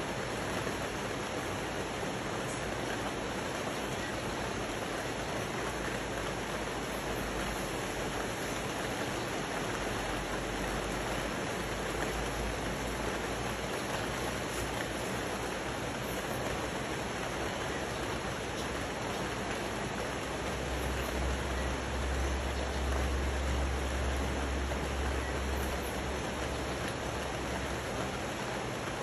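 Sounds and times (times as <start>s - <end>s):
rain on foliage: 0.0s - 29.0s
river rushing over rocks: 0.0s - 29.0s.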